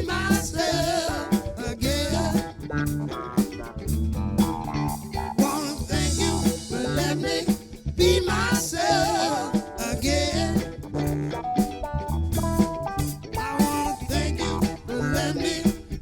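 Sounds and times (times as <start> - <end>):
drum kit beat: 0.0 - 16.0
live funk band playing: 0.0 - 16.0.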